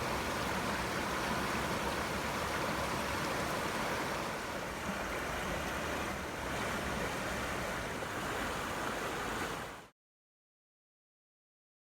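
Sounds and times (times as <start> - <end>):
running water rushing: 0.0 - 9.9.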